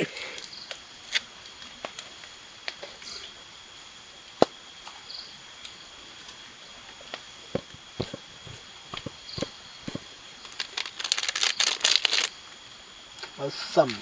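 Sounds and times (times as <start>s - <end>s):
crickets chirping drone: 0.0s - 14.0s.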